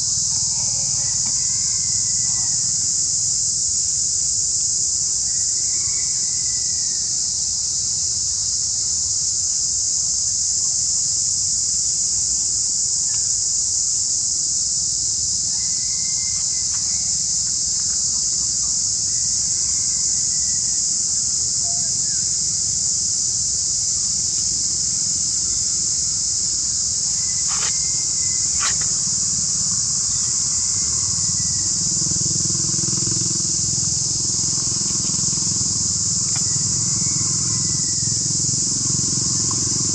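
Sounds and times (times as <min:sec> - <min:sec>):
shrill insect chorus drone: 0:00.0 - 0:39.9.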